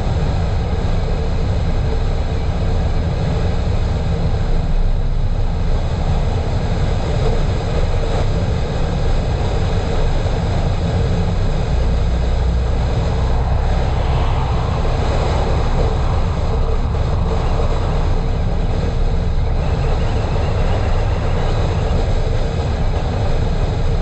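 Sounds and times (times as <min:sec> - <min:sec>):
car engine and tyre drone: 0:00.0 - 0:24.0.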